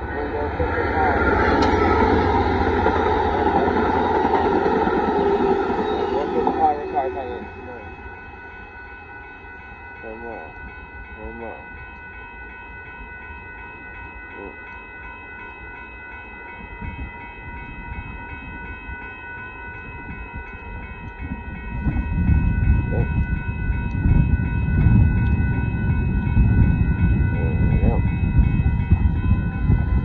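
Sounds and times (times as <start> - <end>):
crossing bell ringing: 0.0 - 30.0
train rumble: 0.0 - 30.0.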